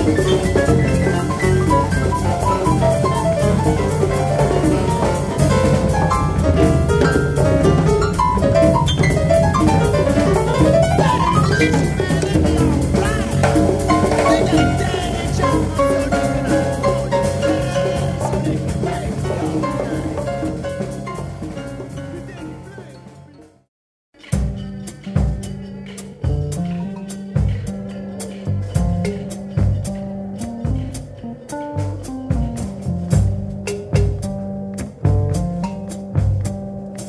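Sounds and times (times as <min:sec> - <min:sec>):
big band playing afrobeat: 0:00.0 - 0:37.0.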